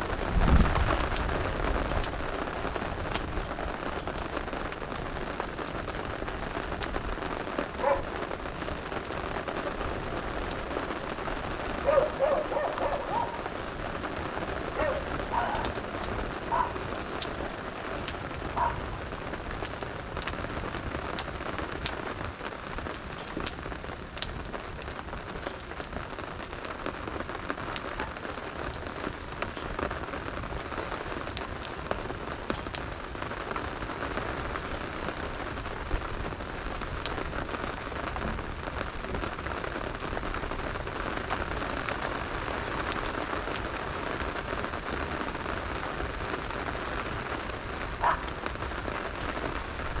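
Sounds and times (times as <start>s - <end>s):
steady rain falling: 0.0s - 50.0s
wood fire crackling: 0.0s - 50.0s.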